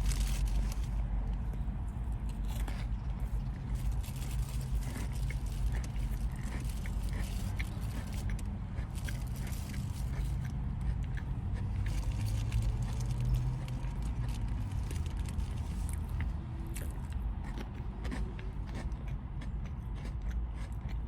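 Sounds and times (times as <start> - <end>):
person chewing: 0.0 - 21.0
steady low hum: 0.0 - 21.0.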